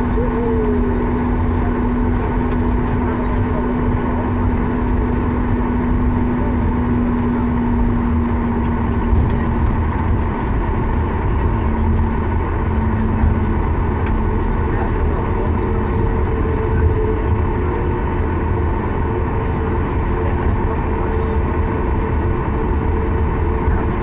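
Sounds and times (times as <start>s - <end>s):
jet engines idling hum: 0.0s - 24.0s
wheels rumbling: 0.0s - 24.0s.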